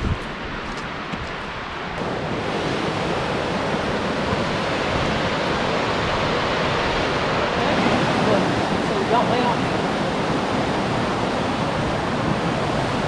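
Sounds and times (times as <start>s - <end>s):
creek rushing near waterfall: 0.0s - 13.0s.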